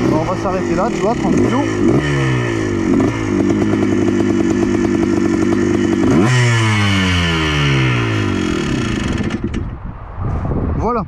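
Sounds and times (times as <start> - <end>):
two-stroke engine revving: 0.0 - 9.7.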